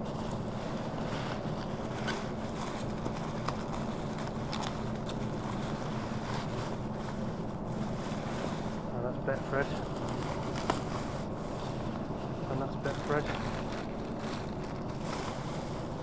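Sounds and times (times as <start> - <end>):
plastic bin bags crinkling: 0.0 - 8.0, 8.9 - 16.0
low mechanical hum: 0.0 - 16.0.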